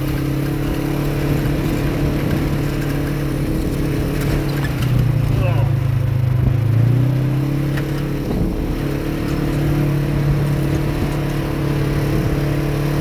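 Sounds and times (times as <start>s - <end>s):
vehicle engine running: 0.0s - 13.0s
wind and tyre noise: 0.0s - 13.0s.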